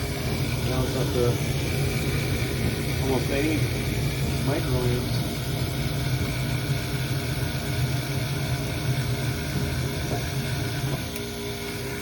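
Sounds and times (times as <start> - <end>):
gas furnace hum and rushing: 0.0 - 12.0.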